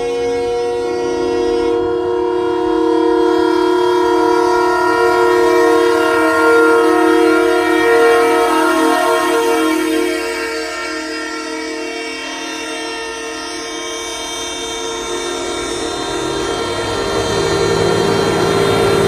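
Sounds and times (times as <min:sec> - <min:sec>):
truck air horn chord: 0:00.0 - 0:19.0.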